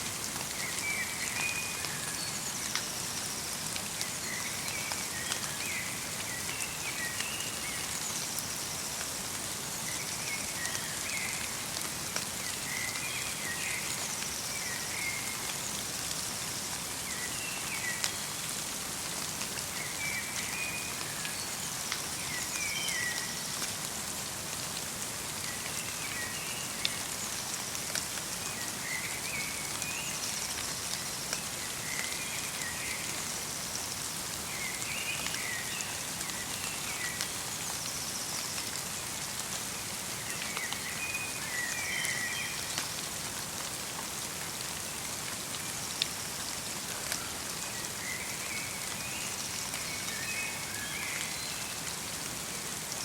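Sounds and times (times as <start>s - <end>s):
light rain pattering: 0.0s - 53.0s.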